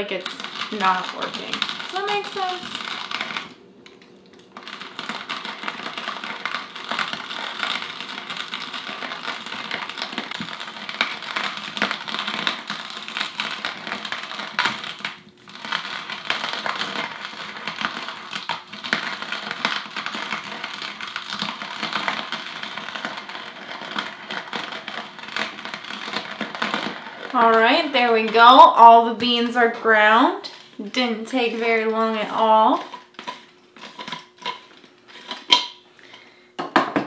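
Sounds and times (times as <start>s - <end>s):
hand grinder crunching coffee beans: 0.0s - 36.4s.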